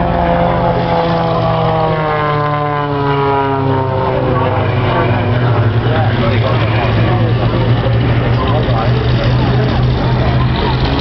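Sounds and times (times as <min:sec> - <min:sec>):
propeller plane flying past: 0:00.0 - 0:11.0
steady low drone: 0:00.0 - 0:11.0.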